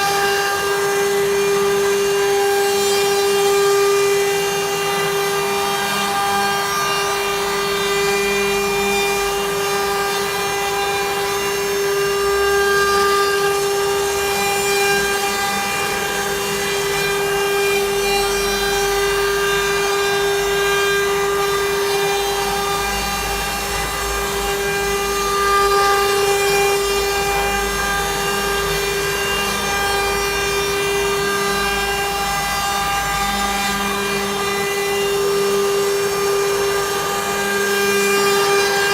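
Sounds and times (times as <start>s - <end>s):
router cutting wood: 0.0s - 38.9s
router spindle whining: 0.0s - 38.9s.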